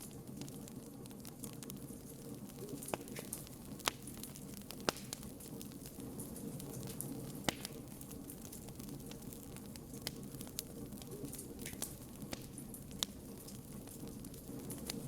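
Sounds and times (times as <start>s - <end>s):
campfire crackling: 0.0s - 15.0s
sharp fire pops: 0.0s - 15.0s.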